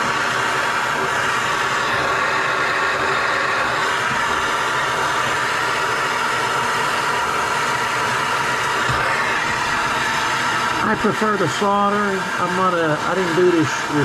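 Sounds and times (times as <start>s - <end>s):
torch flame hissing: 0.0s - 14.0s.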